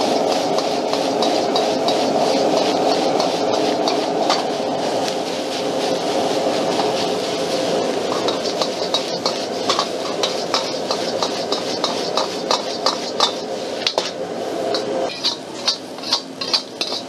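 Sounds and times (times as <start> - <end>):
gas burner rushing: 0.0 - 17.0
metal ladle scraping a wok: 0.0 - 17.0.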